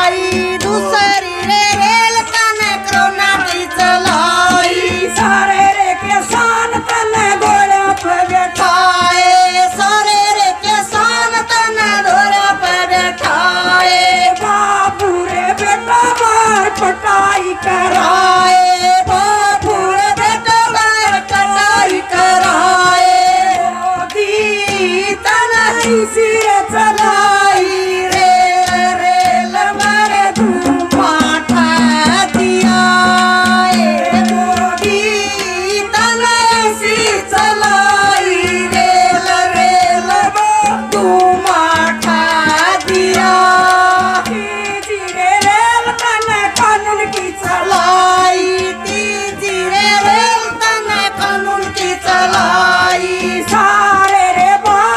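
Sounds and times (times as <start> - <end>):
hand drum beat: 0.0 - 54.9
woman singing over loudspeaker: 0.0 - 54.9.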